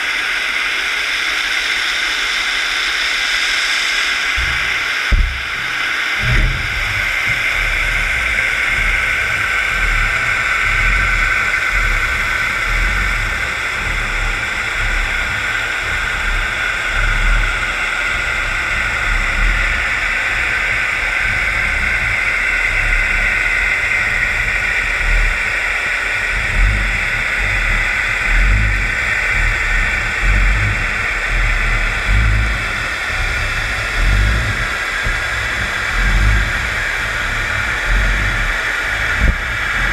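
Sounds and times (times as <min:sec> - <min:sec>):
underwater rushing hiss: 0:01.0 - 0:39.9
uneven low rumble: 0:04.3 - 0:39.9.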